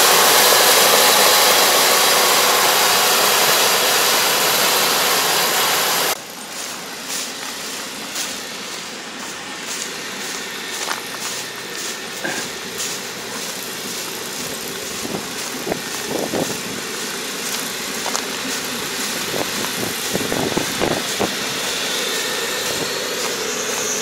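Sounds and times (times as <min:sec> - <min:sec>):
combine harvester engine hum: 0:00.0 - 0:24.0
high whine: 0:00.0 - 0:24.0.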